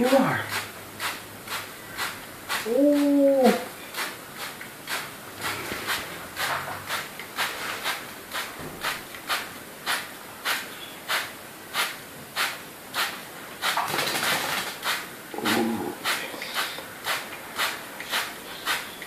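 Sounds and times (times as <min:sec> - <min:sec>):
spray bottle squirting water: 0:00.0 - 0:19.0.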